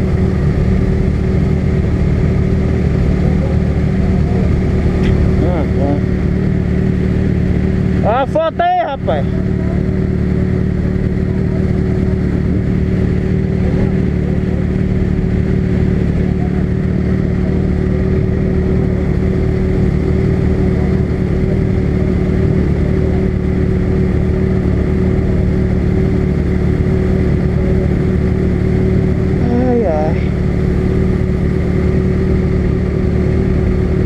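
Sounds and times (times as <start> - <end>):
motorcycle engine droning: 0.0 - 34.0.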